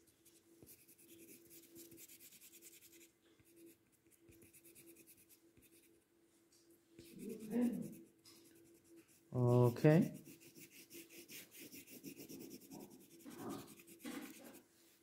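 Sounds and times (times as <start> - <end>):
crayon scribbling on paper: 0.6 - 5.9, 7.0 - 14.6.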